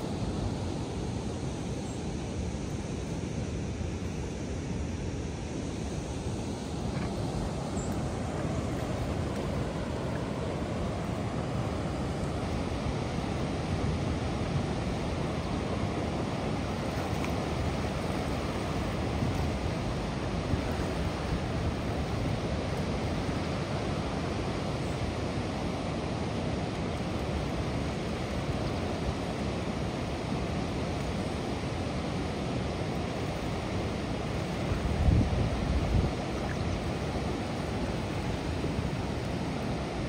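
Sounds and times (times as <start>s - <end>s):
water rushing over a weir: 0.0s - 40.0s.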